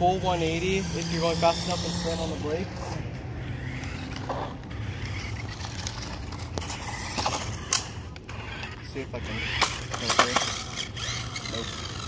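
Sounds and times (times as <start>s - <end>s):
toy car motor rumbling: 0.0s - 12.0s.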